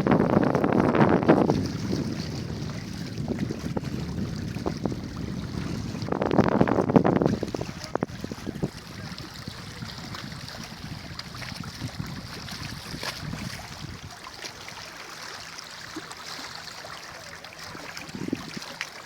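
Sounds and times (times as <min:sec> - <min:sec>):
wind buffeting microphone: 0:00.0 - 0:14.2, 0:17.7 - 0:18.8.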